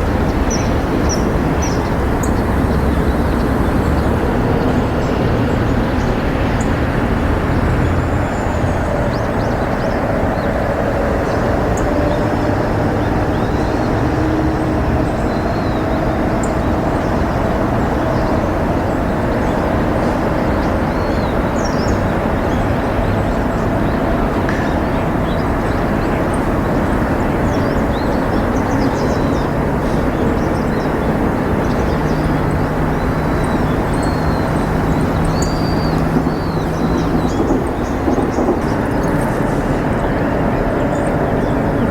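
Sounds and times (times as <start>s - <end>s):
distant road traffic rumble: 0.0s - 41.9s.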